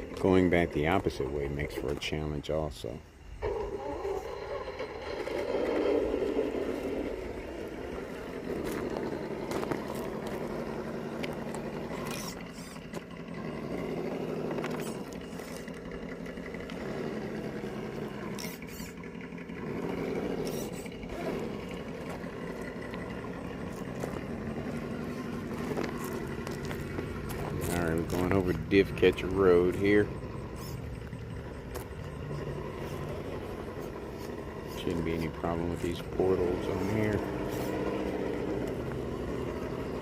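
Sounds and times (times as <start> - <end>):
electric motor whining: 3.3 - 40.0
tires knocking on rock: 4.8 - 40.0.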